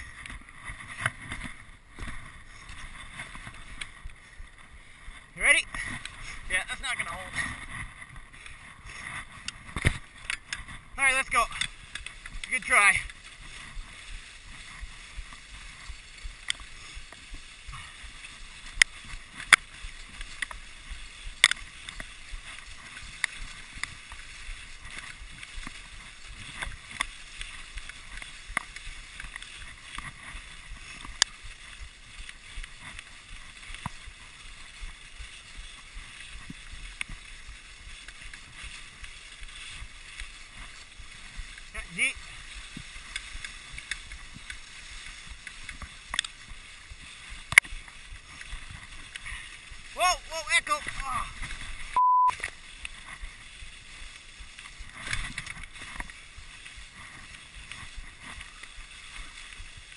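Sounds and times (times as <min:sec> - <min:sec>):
sled runners hissing over snow: 0:00.0 - 0:59.9
sled frame clicks and knocks: 0:05.6 - 0:59.9.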